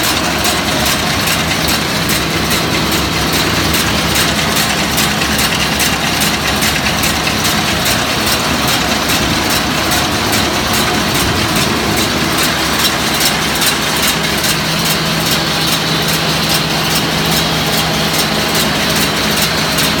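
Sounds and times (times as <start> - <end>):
baler mechanism clicking: 0.0 - 20.0
tractor engine running: 0.0 - 20.0.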